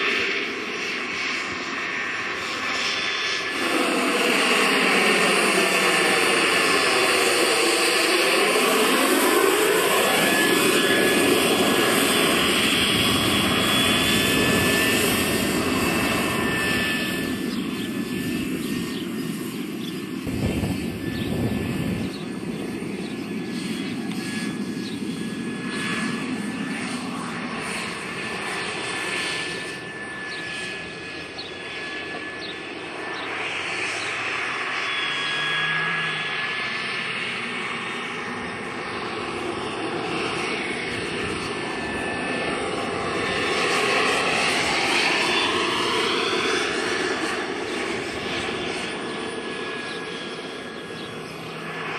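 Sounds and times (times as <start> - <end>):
helicopter rotor noise: 0.0 - 51.9
jet turbine high whine: 0.0 - 51.9.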